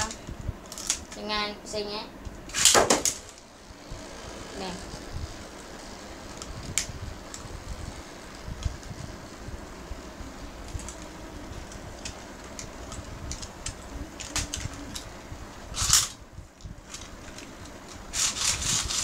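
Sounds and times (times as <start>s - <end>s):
spinning top whirring: 2.4s - 19.0s.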